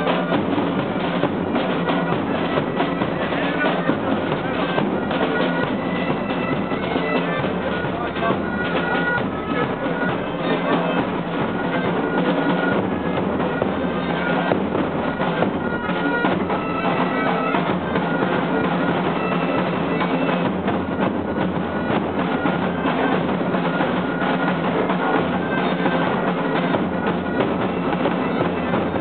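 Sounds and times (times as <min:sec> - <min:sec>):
marching band drumming: 0:00.0 - 0:29.0
wind instruments melody: 0:00.0 - 0:29.0.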